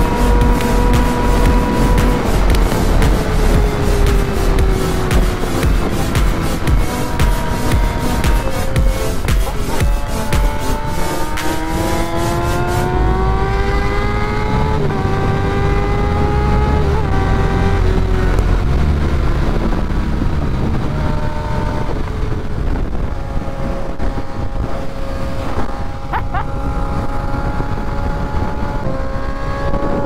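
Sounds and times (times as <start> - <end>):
motorcycle engine accelerating: 0.0 - 30.0
wind rumble on microphone: 0.0 - 30.0.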